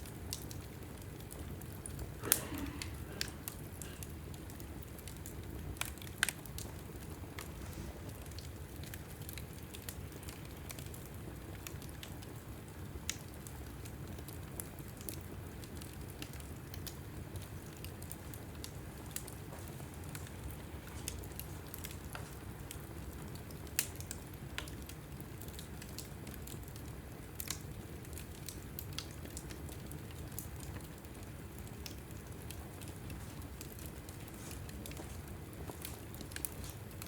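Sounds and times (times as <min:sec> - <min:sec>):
fire crackles and pops: 0:00.0 - 0:37.0
log fire flames rumbling: 0:00.0 - 0:37.0.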